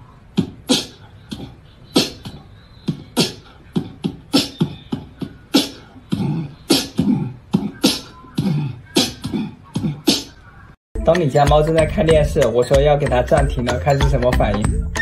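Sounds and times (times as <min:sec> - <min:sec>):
beatboxing bass notes: 0:00.0 - 0:10.4, 0:11.0 - 0:15.0
beatboxing drum hits: 0:00.3 - 0:10.4, 0:11.0 - 0:15.0.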